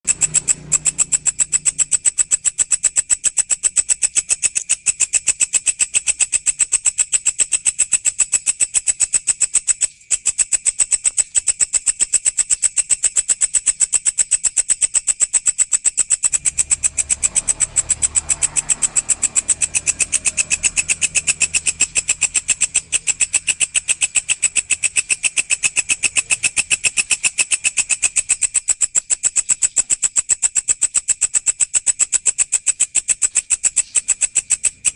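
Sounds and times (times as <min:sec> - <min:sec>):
grasshopper stridulating: 0:00.0 - 0:34.9.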